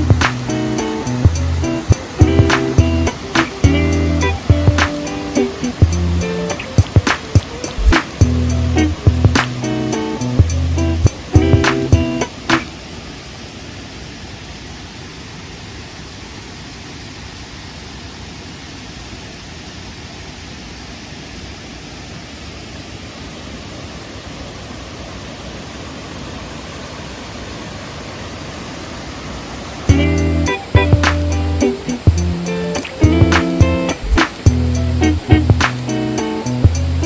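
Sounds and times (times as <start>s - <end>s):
waterfall roar: 0.0s - 37.0s.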